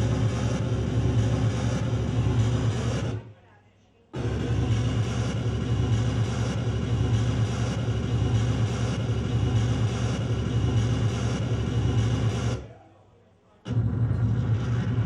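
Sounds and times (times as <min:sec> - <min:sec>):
loud droning hum: 0:00.0 - 0:03.2, 0:04.2 - 0:12.8, 0:13.7 - 0:15.0.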